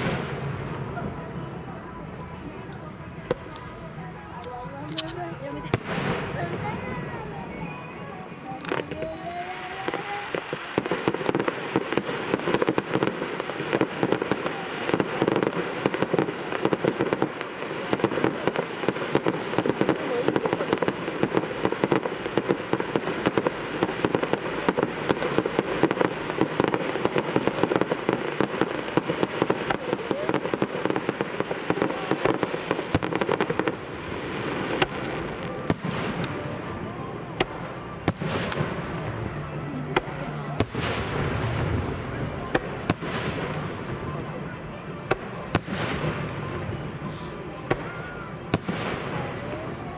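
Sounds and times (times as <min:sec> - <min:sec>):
fireworks crackling and popping: 0:00.0 - 0:49.9.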